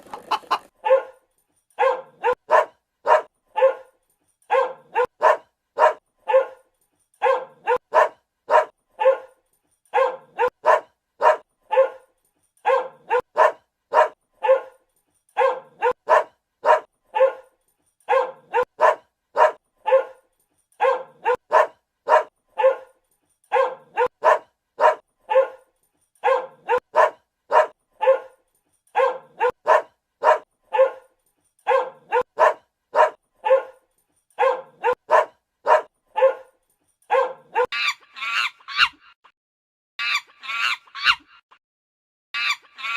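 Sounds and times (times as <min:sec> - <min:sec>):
dog barking: 0:00.8 - 0:01.2, 0:01.8 - 0:38.0.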